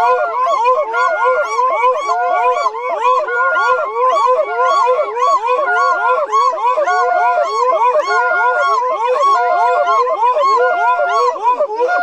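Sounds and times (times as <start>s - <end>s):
men singing in falsetto whoops: 0.0s - 12.0s.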